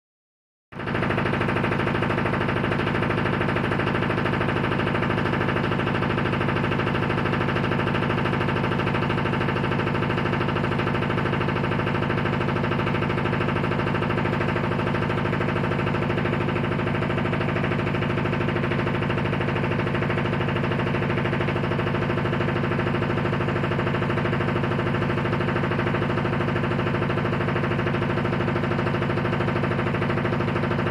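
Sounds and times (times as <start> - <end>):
washing machine rapid rattle: 0.8 - 30.9.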